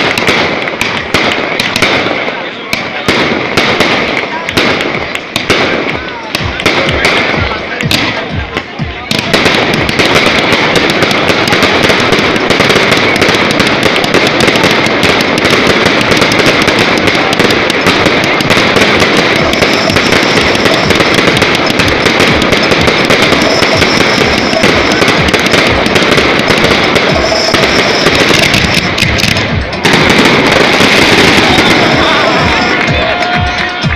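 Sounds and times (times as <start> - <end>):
fireworks crackling and banging: 0.0 - 33.9.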